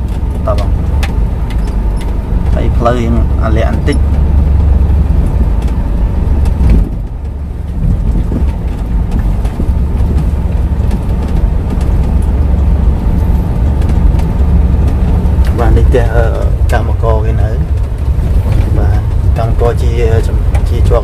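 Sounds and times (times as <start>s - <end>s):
truck engine droning: 0.0s - 21.0s.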